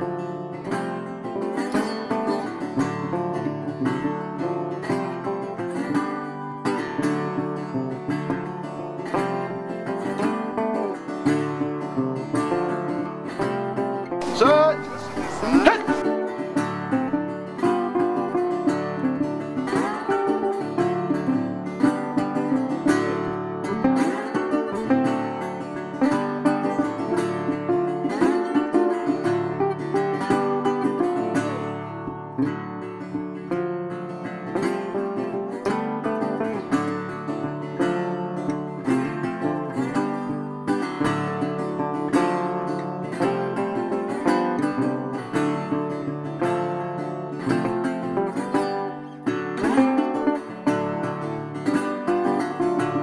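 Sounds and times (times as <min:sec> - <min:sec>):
plucked acoustic guitar music: 0:00.0 - 0:53.0.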